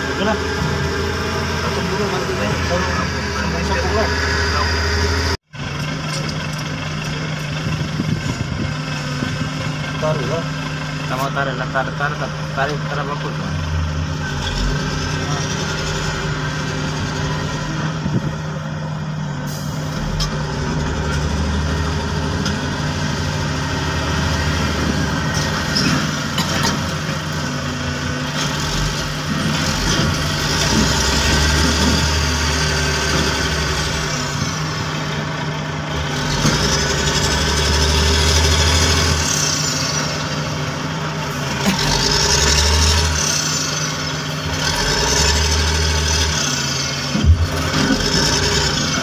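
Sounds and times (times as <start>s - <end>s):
excavator diesel engine rumble: 0.0s - 49.0s.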